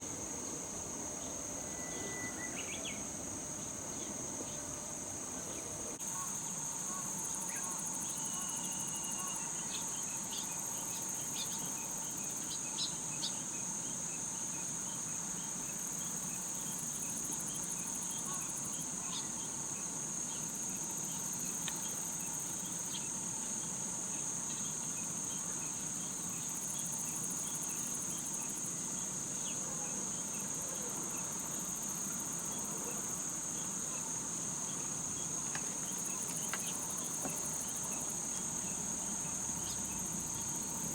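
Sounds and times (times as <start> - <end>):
faint insect chirps: 0.0 - 40.9
insects trilling: 0.0 - 40.9.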